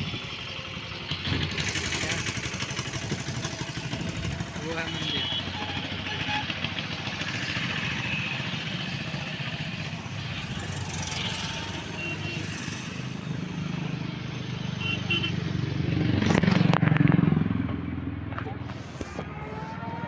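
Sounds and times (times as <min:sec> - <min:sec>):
road and wind noise: 0:00.0 - 0:20.0
vehicle engine running: 0:00.0 - 0:20.0.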